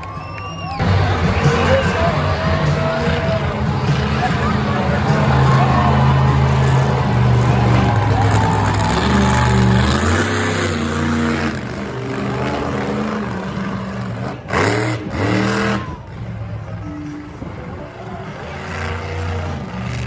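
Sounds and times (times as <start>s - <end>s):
monster truck engine revving: 0.8s - 20.0s.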